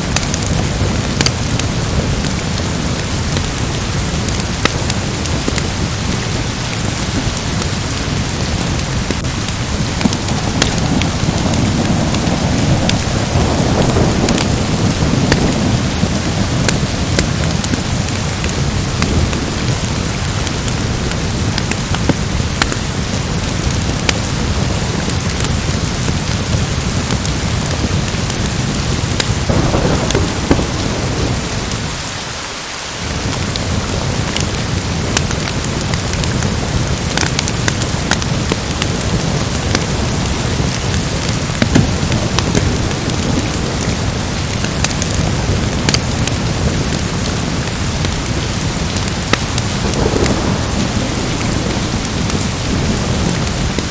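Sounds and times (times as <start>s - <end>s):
heavy rain: 0.0s - 53.9s
low thunder rumble: 0.0s - 53.9s
sharp crackles: 0.0s - 53.9s.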